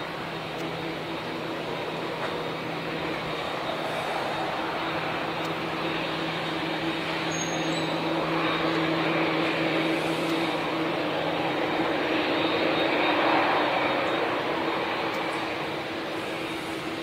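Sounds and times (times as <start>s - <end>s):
propeller airliner engines drone: 0.0s - 17.0s.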